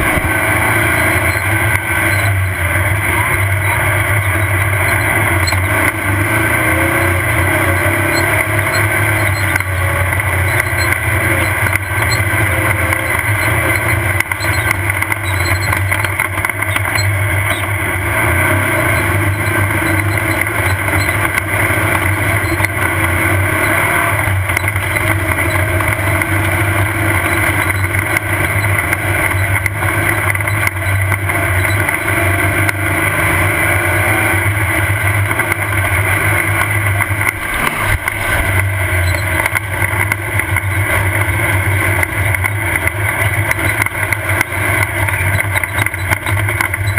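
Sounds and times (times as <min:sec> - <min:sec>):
buggy engine running: 0:00.0 - 0:46.9.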